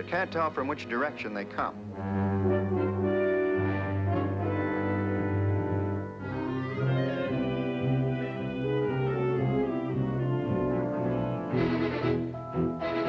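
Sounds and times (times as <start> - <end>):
orchestral sustained chords: 0.0 - 13.0.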